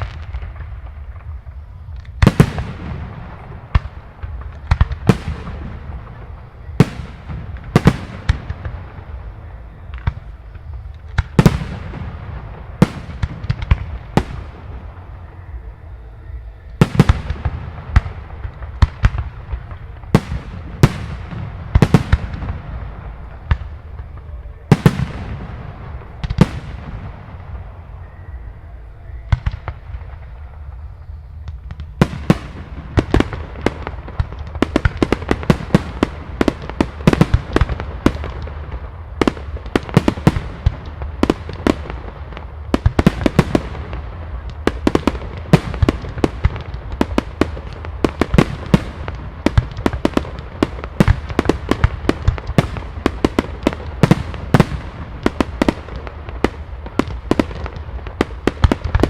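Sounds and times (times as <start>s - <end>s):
low rumble of fireworks: 0.0s - 59.0s.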